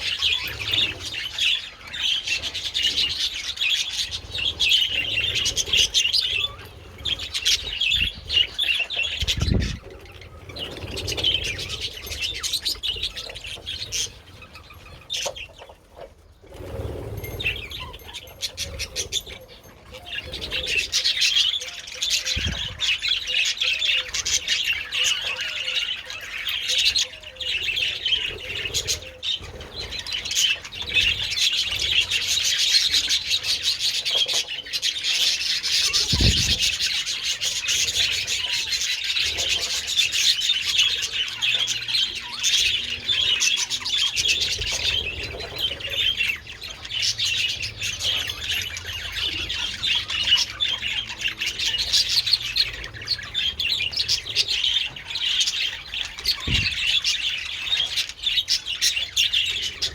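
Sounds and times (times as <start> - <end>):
budgerigars chattering and warbling: 0.0 - 59.9.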